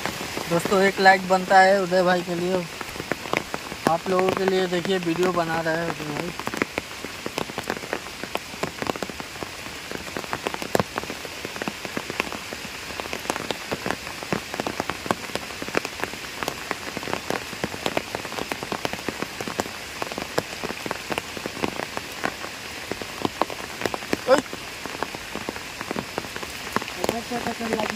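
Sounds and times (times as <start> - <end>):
rain falling on a pond: 0.0 - 27.9.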